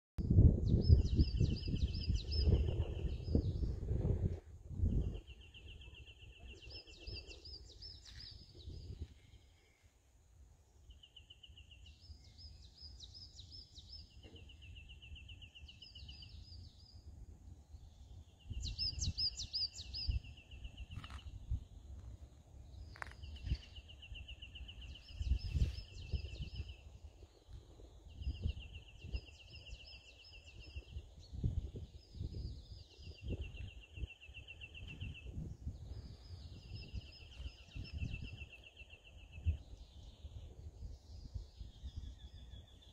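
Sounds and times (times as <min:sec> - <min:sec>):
wind rumble on microphone: 0:00.2 - 0:09.8, 0:10.9 - 0:42.9
songbird singing trills: 0:00.6 - 0:04.2, 0:04.8 - 0:09.9, 0:10.8 - 0:21.8, 0:22.6 - 0:42.9.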